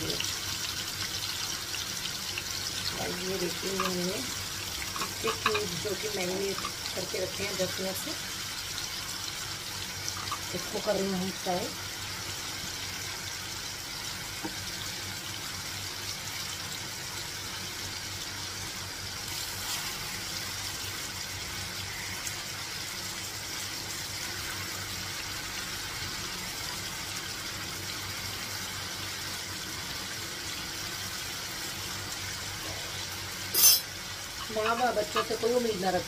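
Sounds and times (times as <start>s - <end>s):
cheese sizzling in hot oil: 0.0s - 36.0s.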